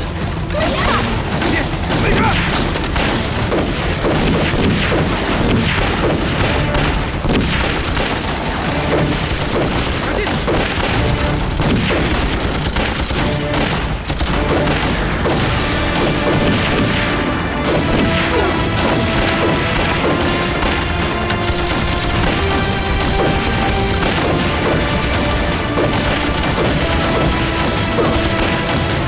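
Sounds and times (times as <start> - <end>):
dramatic background music: 0.0 - 29.0
rapid gunfire: 0.0 - 29.0
booms: 1.0 - 29.0.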